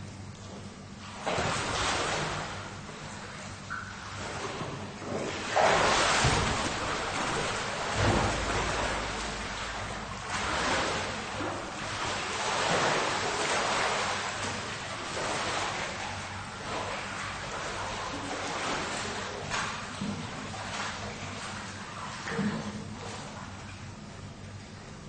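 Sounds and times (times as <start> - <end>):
pool water splashing: 0.0 - 25.0.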